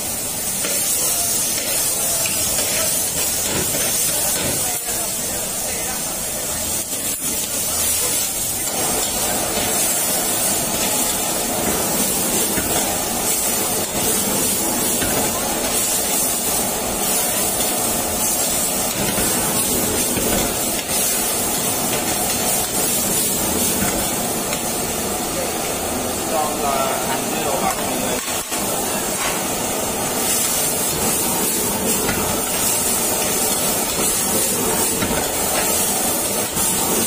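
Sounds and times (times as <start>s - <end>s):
food sizzling in a wok: 0.0s - 37.0s
gas burner rushing: 0.0s - 37.0s.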